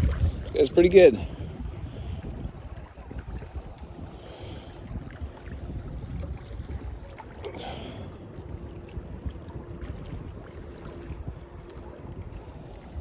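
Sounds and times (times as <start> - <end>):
water lapping: 0.0 - 13.0
wind rumble on microphone: 0.0 - 13.0.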